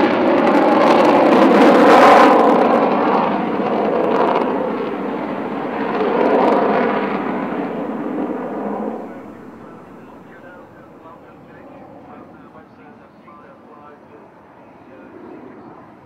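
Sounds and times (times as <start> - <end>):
loud jet roar: 0.0 - 13.1.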